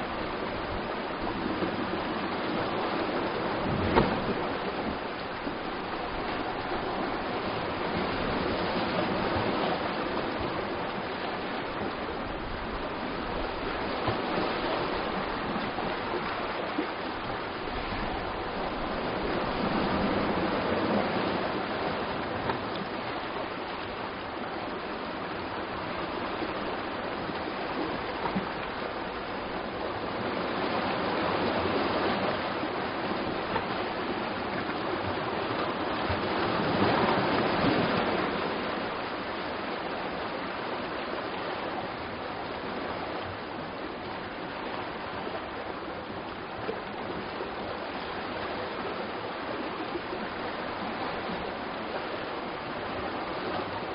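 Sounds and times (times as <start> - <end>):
surf washing against rocks: 0.0 - 53.9.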